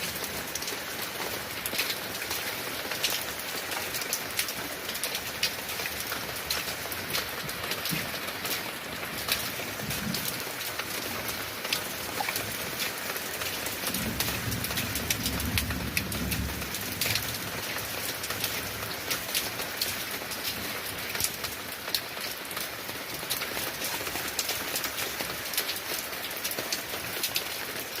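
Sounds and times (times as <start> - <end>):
rain drops pattering: 0.0 - 28.0.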